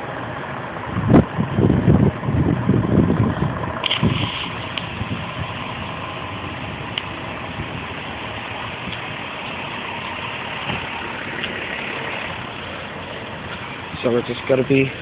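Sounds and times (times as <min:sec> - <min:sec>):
street noise: 0:00.0 - 0:15.0
vehicle engine idling: 0:00.0 - 0:15.0.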